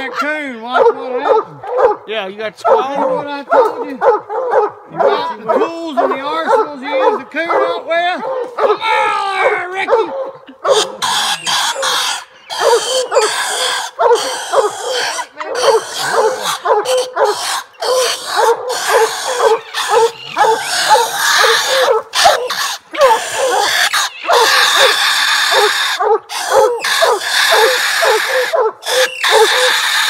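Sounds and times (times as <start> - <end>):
hounds barking: 0.0 - 30.0.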